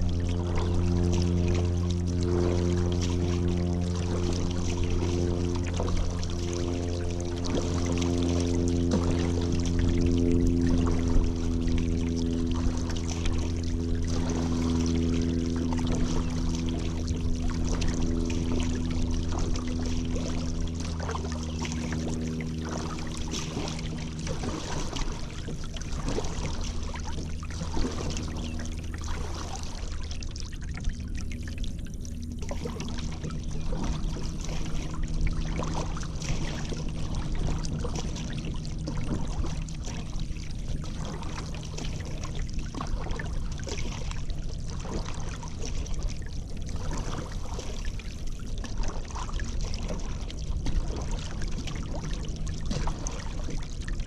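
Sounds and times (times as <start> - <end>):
paddle splashing in water: 0.0 - 54.0
steady low drone: 0.0 - 54.0.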